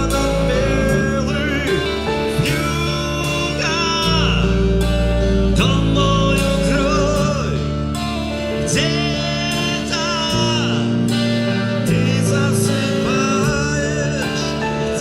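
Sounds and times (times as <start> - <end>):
band playing instrumental: 0.0 - 15.0.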